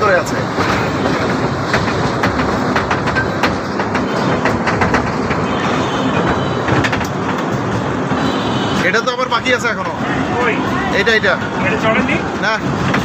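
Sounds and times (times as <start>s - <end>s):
small train rumbling on track: 0.0s - 13.0s
wheels clicking over rail joints: 0.0s - 13.0s.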